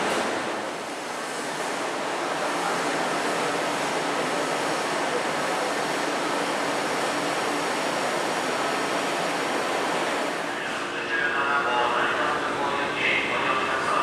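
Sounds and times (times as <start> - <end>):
faint steady train hum: 0.0 - 14.0.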